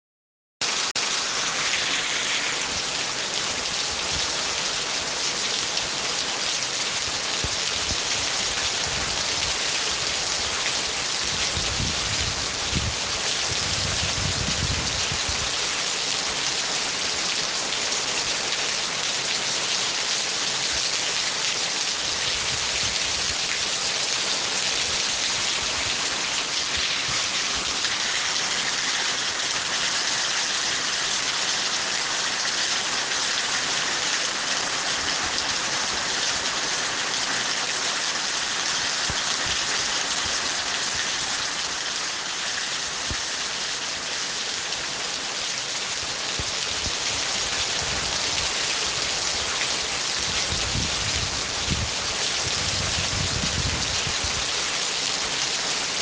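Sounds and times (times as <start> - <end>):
heavy rain falling: 0.6 - 56.0.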